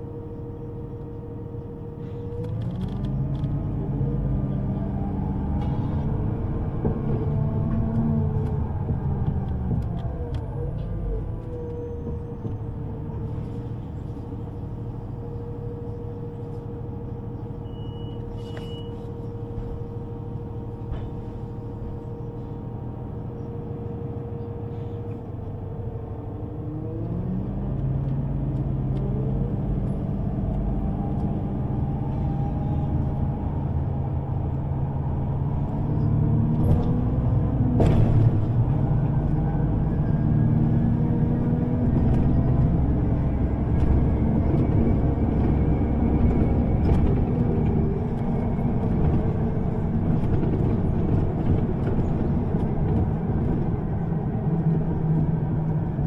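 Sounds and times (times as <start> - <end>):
train hum: 0.0 - 56.0.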